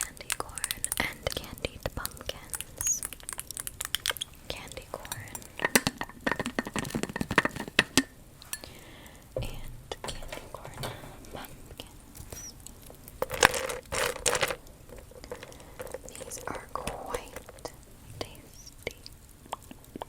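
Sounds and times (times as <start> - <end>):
candy clattering: 0.0 - 8.8, 10.1 - 19.0
hard candy clinking: 0.0 - 10.7, 11.8 - 18.4.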